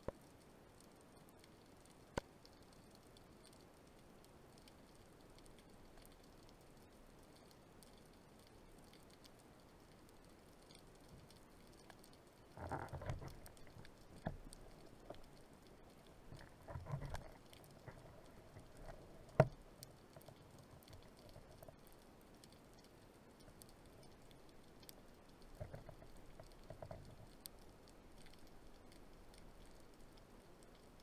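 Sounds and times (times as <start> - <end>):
underwater ticks crackling: 0.0 - 31.0
soft rustling bursts: 0.2 - 31.0.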